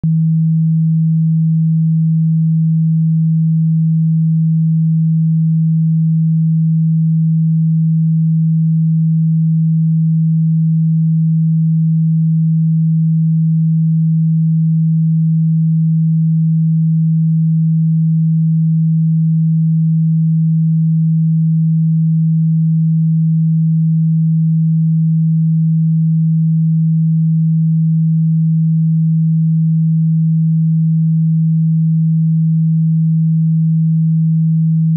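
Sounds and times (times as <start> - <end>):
low electronic sine tone: 0.0 - 34.9.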